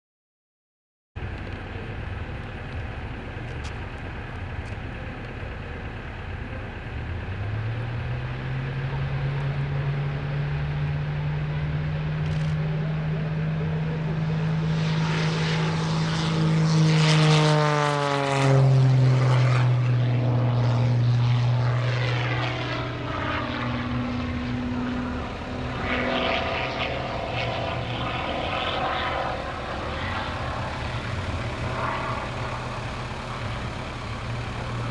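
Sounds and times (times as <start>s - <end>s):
propeller plane engine: 1.2s - 34.9s.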